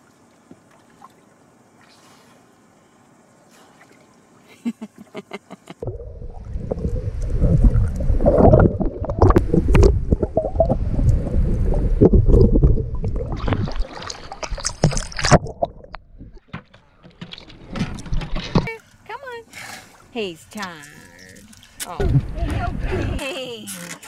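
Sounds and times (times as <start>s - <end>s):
water sloshing and splashing: 0.0s - 2.6s, 5.8s - 24.0s.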